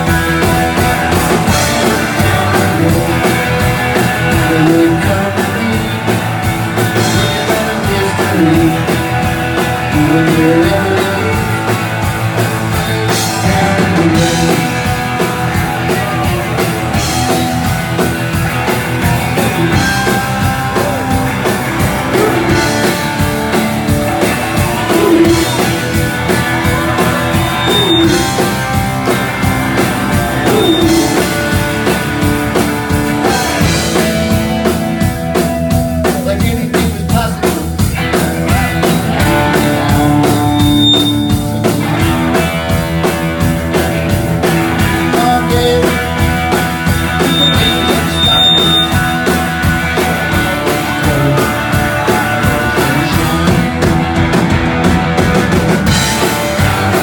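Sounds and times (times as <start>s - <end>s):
electric guitar bending notes: 0.0s - 36.3s, 37.8s - 57.0s
drum kit: 0.0s - 57.0s.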